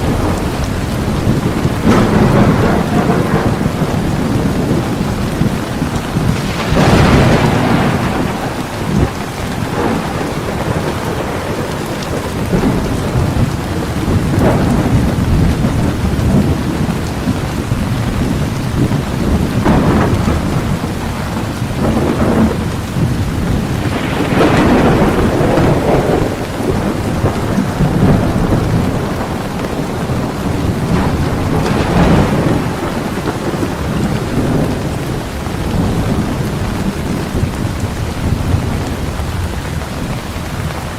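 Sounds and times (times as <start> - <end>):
heavy rain: 0.0 - 40.9
thunder rolling: 0.0 - 40.9.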